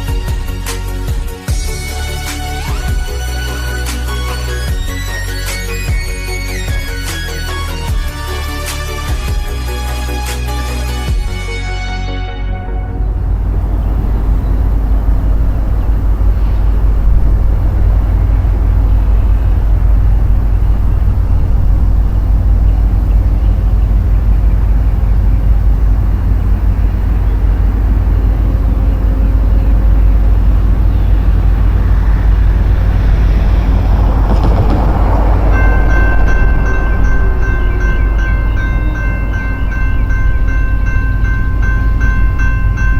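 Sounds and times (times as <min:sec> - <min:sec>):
freight train rumble: 0:00.0 - 0:42.9.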